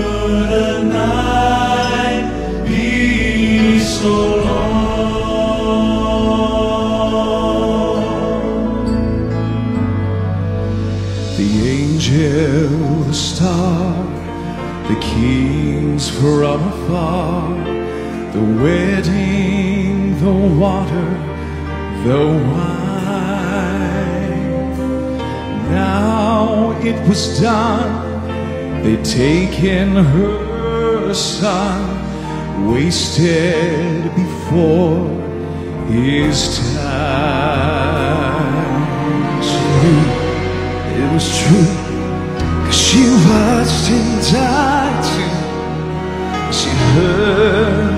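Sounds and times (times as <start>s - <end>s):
instrumental accompaniment: 0.0s - 47.9s
male vocal quartet singing: 0.0s - 47.9s
sustained piano chords: 0.0s - 47.9s.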